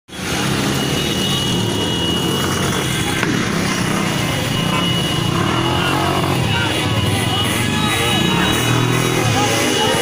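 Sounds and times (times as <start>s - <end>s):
motorcycles riding past: 0.2s - 10.0s.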